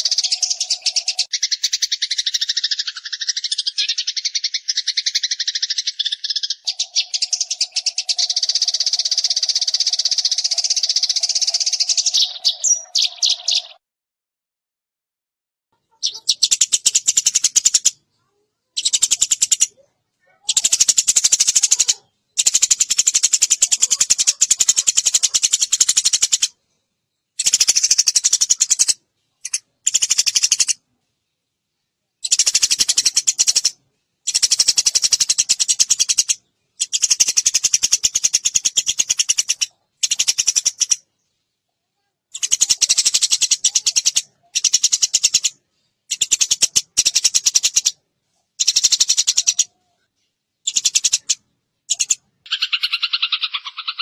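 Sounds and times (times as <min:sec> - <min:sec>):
sparrow chirping rapidly: 0:00.0 - 0:13.8, 0:15.8 - 0:26.6, 0:27.2 - 0:30.8, 0:32.2 - 0:41.4, 0:42.3 - 0:48.0, 0:48.6 - 0:49.8, 0:50.6 - 0:54.0.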